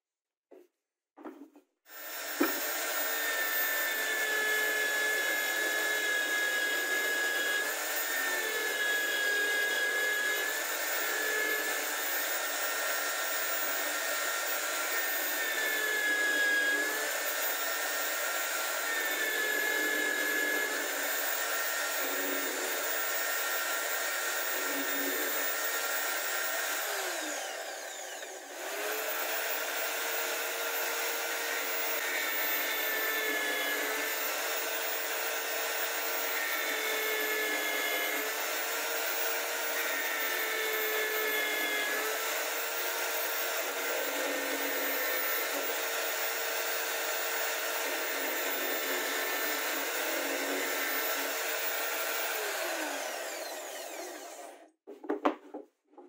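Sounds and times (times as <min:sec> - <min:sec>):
drill press whining: 0:01.9 - 0:54.8.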